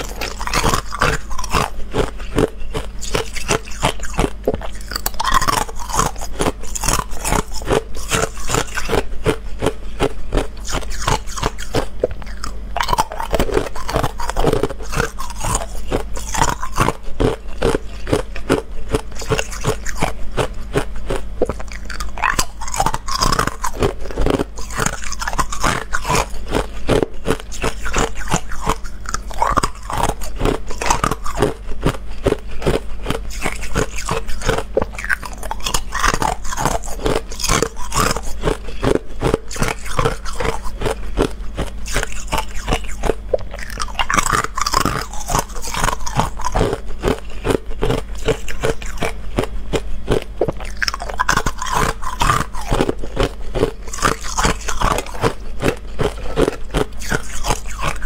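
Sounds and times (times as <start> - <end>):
ice cubes being chewed: 0.0 - 58.0.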